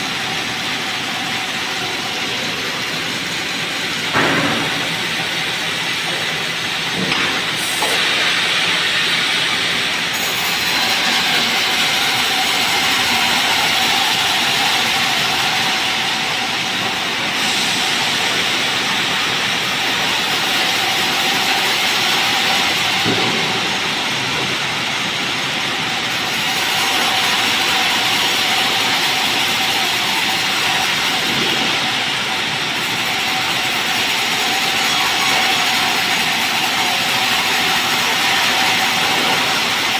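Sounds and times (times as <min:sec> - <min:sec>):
machine whine: 0:00.0 - 0:39.9.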